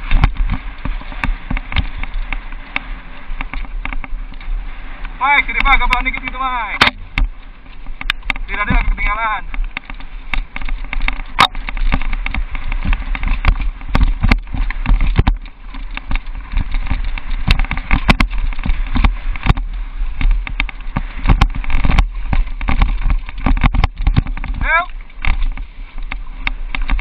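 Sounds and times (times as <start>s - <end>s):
bike knocking over bumps: 0.0s - 27.0s
mountain bike rattling on trail: 0.0s - 27.0s.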